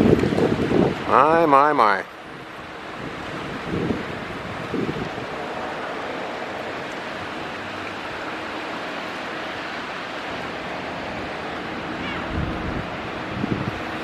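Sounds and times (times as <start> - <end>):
strong wind through trees: 0.0 - 14.0.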